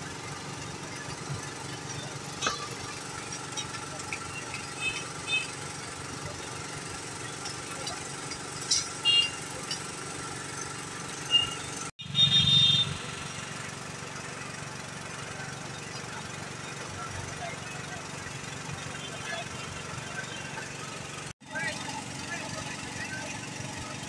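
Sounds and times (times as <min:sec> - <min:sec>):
street traffic hum: 0:00.0 - 0:24.0.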